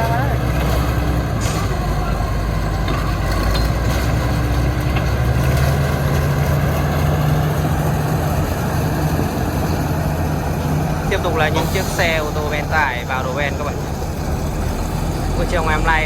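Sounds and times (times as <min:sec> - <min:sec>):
diesel machinery engine drone: 0:00.0 - 0:16.0.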